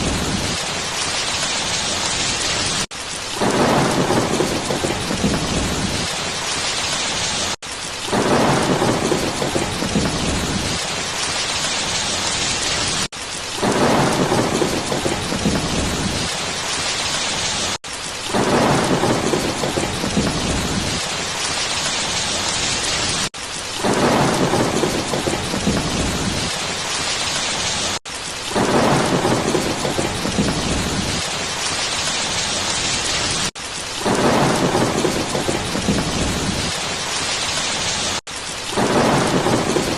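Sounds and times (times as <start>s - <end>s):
heavy rain: 0.0s - 39.9s
thunder rumble: 0.0s - 39.9s.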